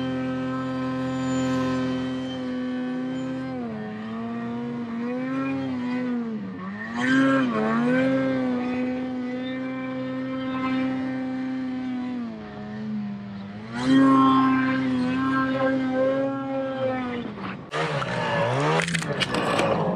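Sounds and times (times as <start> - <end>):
snowmobile engine revving: 0.0 - 19.9.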